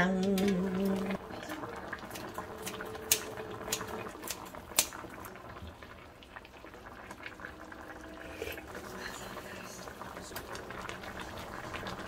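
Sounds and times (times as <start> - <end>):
stew bubbling in a wok: 0.0 - 12.0.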